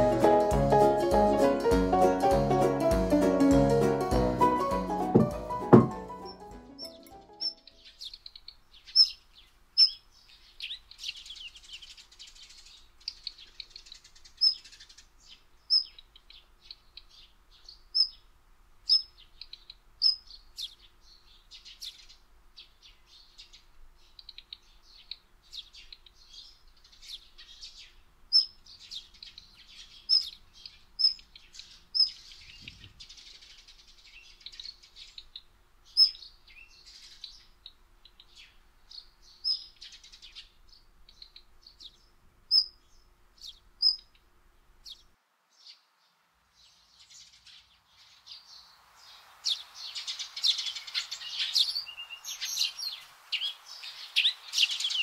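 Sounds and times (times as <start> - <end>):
songbirds chirping: 0.0 - 55.0
soft bird twittering: 6.8 - 18.2, 18.9 - 44.2, 46.6 - 55.0.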